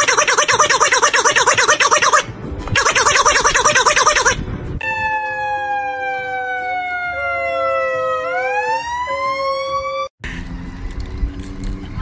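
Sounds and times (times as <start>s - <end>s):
siren wailing: 0.0s - 10.1s
steady siren tone: 0.0s - 10.1s.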